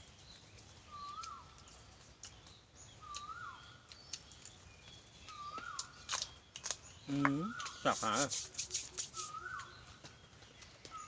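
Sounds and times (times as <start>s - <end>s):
higher bird chirps: 0.0s - 11.0s.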